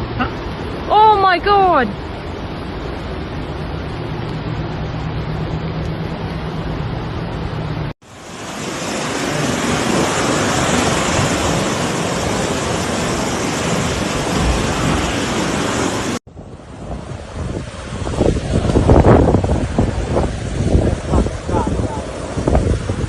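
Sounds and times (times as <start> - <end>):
floodwater rushing: 0.0 - 23.0
wind noise on microphone: 0.0 - 23.0.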